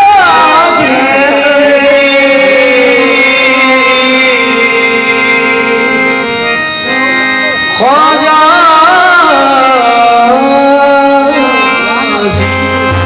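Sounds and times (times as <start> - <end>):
harmonium chords: 0.0 - 13.0
man singing: 0.0 - 13.0.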